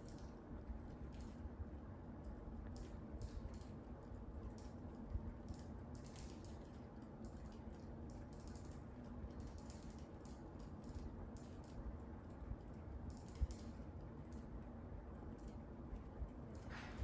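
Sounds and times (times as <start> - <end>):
faint clicking and clacking: 0.0 - 17.0
steady low hum: 0.0 - 17.0.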